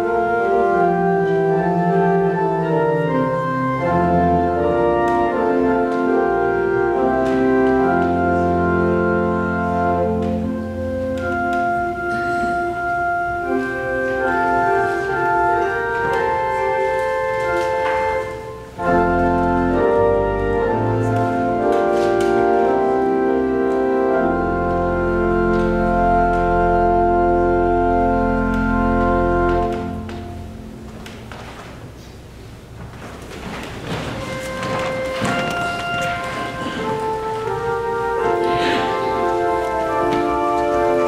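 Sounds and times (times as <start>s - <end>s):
deep organ bass notes: 0.0s - 31.5s, 34.0s - 41.0s
organ playing sustained chords: 0.0s - 41.0s.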